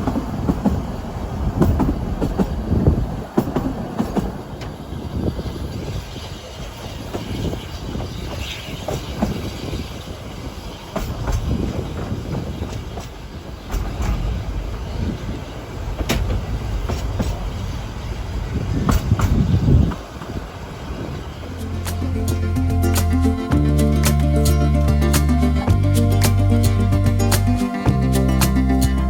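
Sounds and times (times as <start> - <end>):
train rumbling: 0.0 - 29.0
wheels clicking on track: 0.0 - 29.0.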